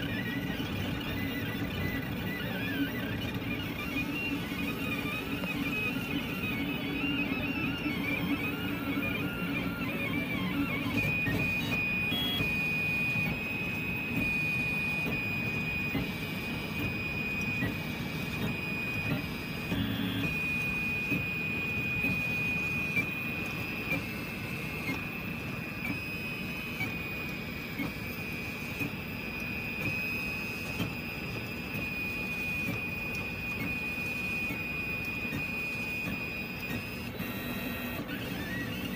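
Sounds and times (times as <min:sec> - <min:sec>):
printer motors whining: 0:00.0 - 0:38.9.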